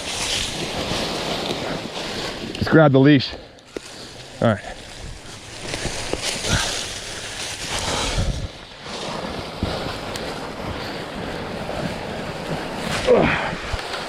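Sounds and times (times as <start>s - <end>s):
footsteps in dry leaves: 0.0s - 2.6s, 3.7s - 14.0s.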